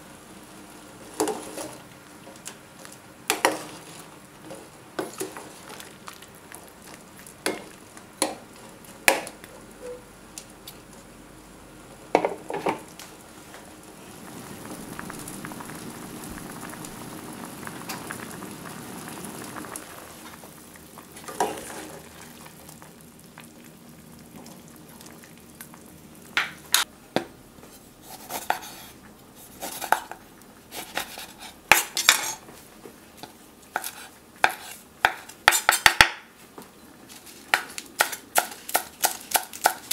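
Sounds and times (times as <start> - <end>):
broth simmering and bubbling: 0.0 - 35.5.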